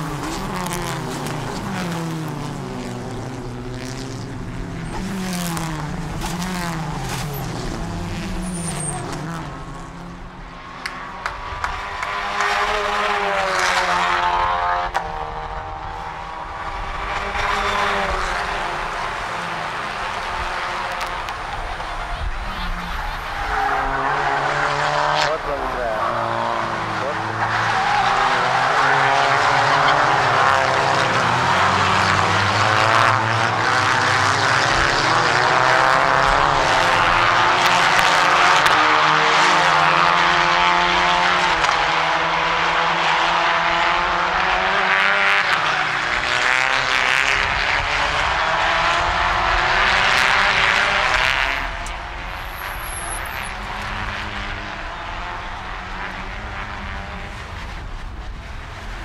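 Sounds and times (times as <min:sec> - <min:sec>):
race car engines at high revs: 0:00.0 - 0:59.0.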